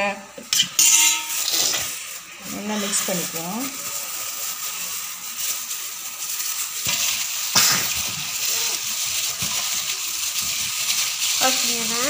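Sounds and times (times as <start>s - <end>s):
wet squishing and stirring: 0.5s - 12.0s.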